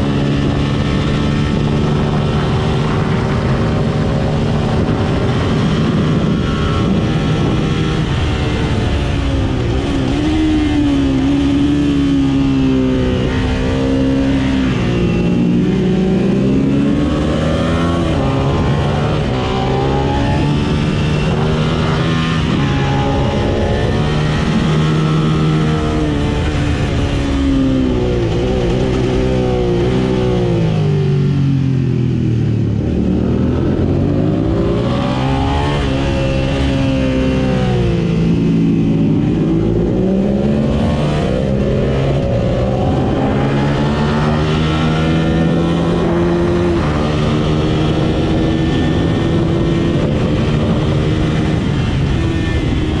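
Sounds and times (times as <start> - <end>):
motorcycle engine revving: 0.0 - 53.0
wind noise: 0.0 - 53.0.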